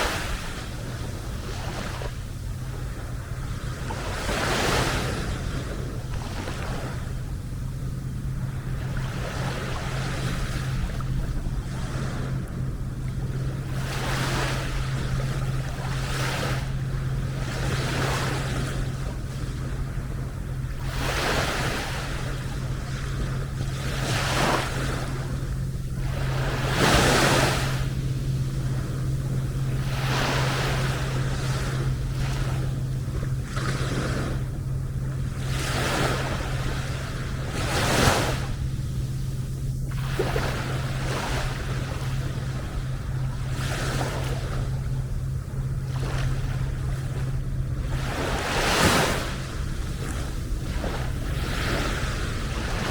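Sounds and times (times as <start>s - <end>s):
small waves washing onto beach: 0.0s - 52.9s
steady low hum: 0.0s - 52.9s.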